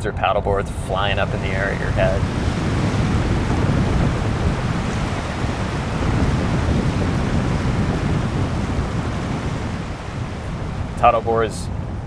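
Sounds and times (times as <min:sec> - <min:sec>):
rushing whitewash of tide: 0:00.9 - 0:12.0.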